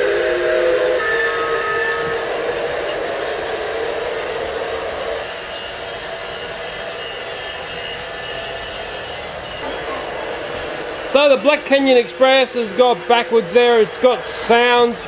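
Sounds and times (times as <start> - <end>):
distant toy trains running: 0.0 - 15.0
toy train motor whirring: 0.0 - 15.0
toy train whistle: 0.0 - 15.0.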